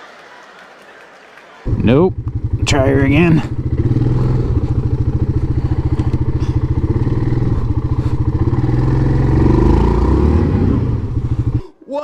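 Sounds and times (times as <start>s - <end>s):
atv engine revving: 1.7s - 11.7s.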